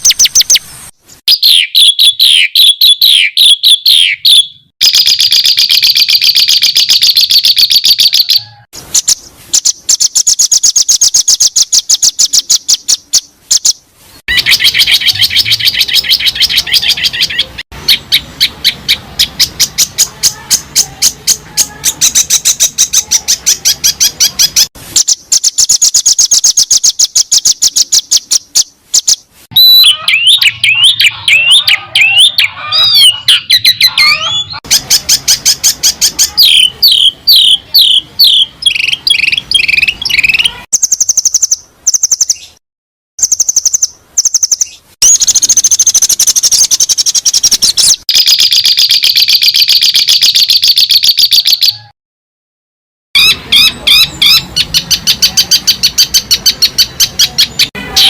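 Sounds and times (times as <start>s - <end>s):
high fast bird chatter: 0.0s - 42.6s, 43.2s - 51.9s, 53.2s - 58.0s
rapid repeated bird chirps: 0.0s - 42.6s, 43.2s - 51.9s, 53.2s - 58.0s
sharp high bird chips: 0.0s - 42.6s, 43.2s - 51.9s
whistled bird warbling: 1.3s - 42.6s, 43.2s - 51.9s, 53.2s - 58.0s.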